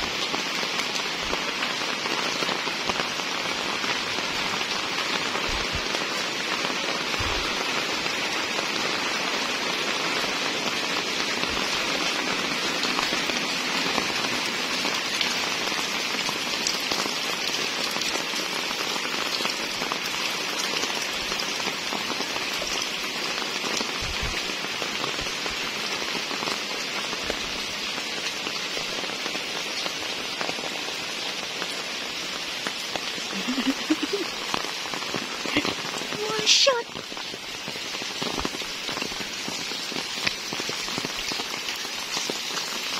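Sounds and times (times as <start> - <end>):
rain on concrete and roofs: 0.0 - 42.9.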